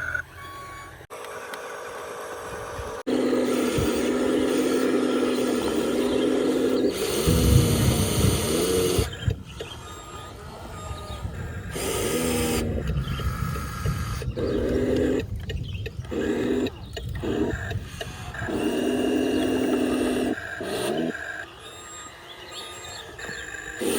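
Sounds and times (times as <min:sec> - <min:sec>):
electric motors whining: 0:00.0 - 0:23.9.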